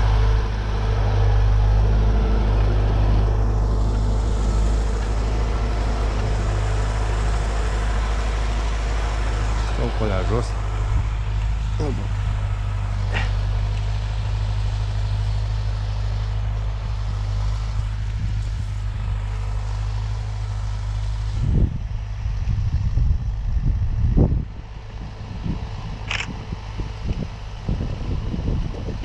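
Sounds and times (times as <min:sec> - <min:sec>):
tractor diesel engine running: 0:00.0 - 0:29.0
wind buffeting microphone: 0:00.0 - 0:29.0.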